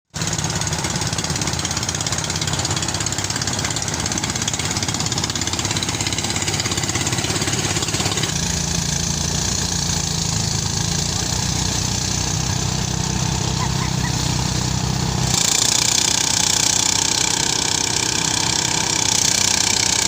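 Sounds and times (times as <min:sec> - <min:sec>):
threshing machine engine running: 0:00.2 - 0:20.0.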